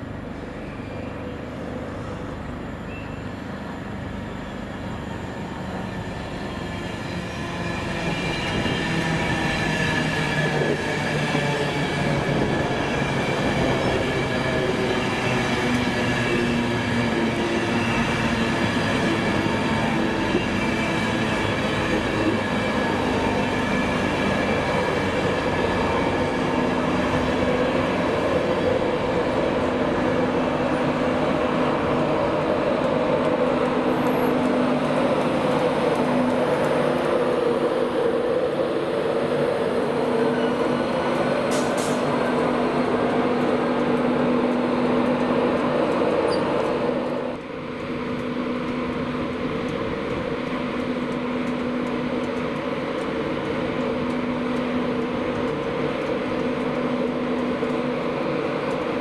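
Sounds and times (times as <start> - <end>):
train running on track: 0.0 - 59.0.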